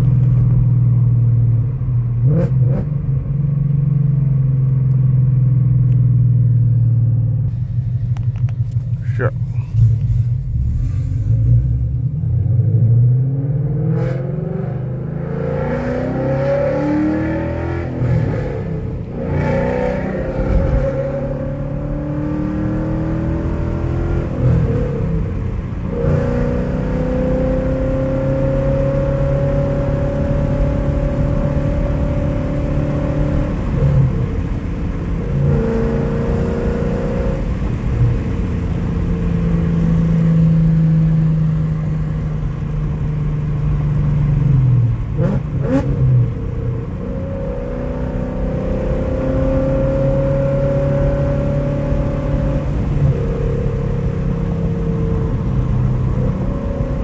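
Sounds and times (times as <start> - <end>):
car engine accelerating hard: 7.5 - 57.0.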